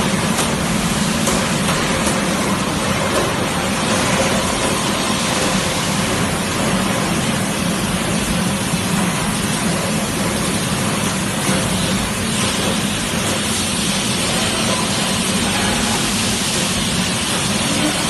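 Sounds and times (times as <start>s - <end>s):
machinery rushing hiss: 0.0s - 18.0s.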